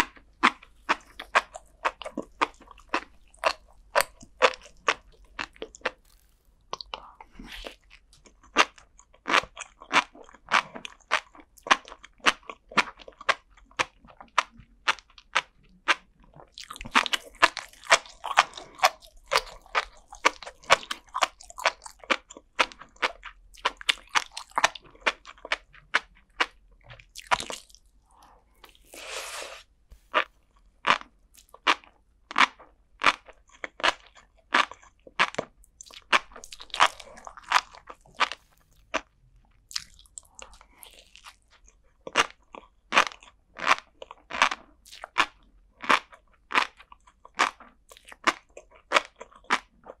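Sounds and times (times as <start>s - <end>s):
crunchy chewing: 0.0s - 50.0s.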